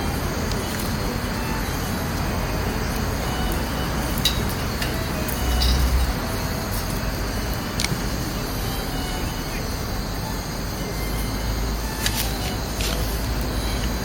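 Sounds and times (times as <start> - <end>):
fire crackles: 0.0 - 14.0.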